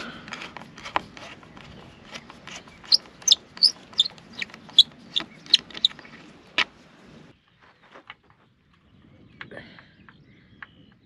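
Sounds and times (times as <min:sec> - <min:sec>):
bird chirping: 0:01.2 - 0:11.0.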